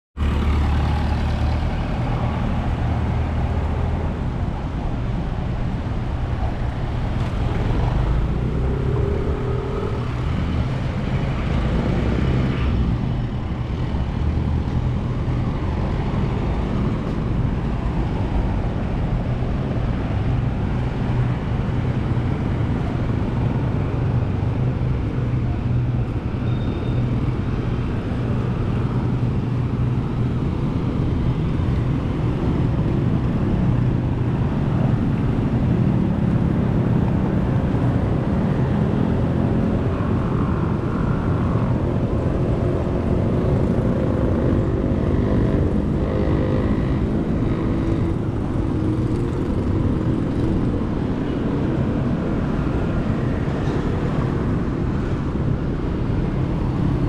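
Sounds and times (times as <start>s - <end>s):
surrounding traffic: 0.1s - 57.0s
road noise: 0.2s - 57.0s
vehicle engine hum: 0.2s - 57.0s.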